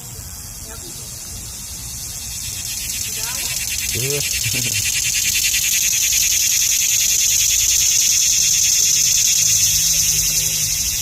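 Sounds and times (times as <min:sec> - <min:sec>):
cicada buzzing: 0:00.0 - 0:11.0.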